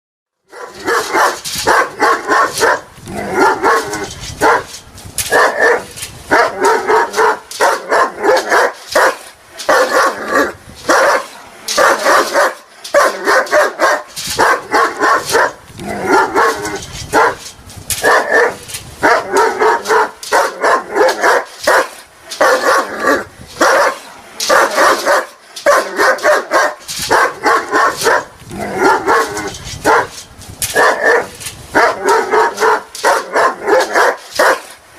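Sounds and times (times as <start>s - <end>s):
dog barking aggressively: 0.5s - 4.7s, 5.3s - 17.4s, 18.0s - 34.8s.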